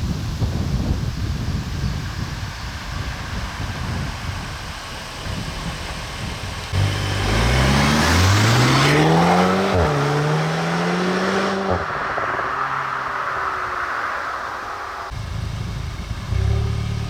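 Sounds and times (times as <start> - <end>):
wind noise: 0.0 - 16.8
road noise: 0.0 - 17.0
car engine accelerating: 3.3 - 17.0.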